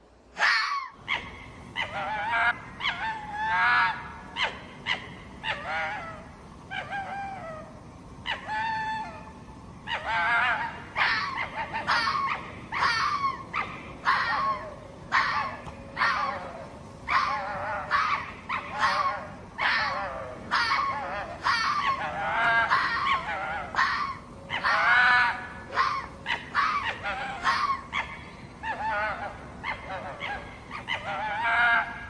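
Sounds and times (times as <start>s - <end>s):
fox yelping barks: 0.4s - 9.2s, 9.8s - 32.0s.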